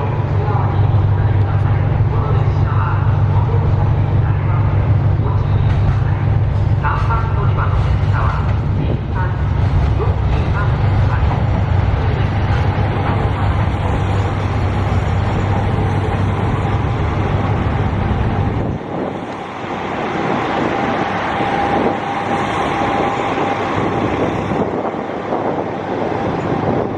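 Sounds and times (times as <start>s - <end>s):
diesel train engines droning: 0.0s - 26.9s
station background noise: 0.0s - 26.9s.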